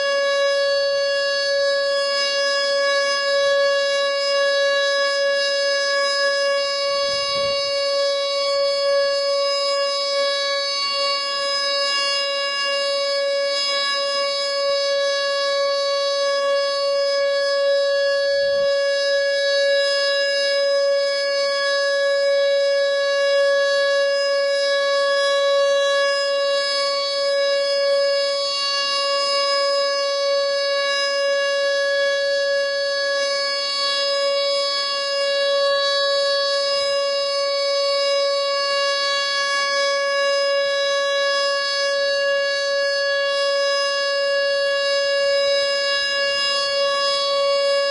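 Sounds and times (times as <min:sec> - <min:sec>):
outdoor warning siren steady tone: 0:00.0 - 0:47.9.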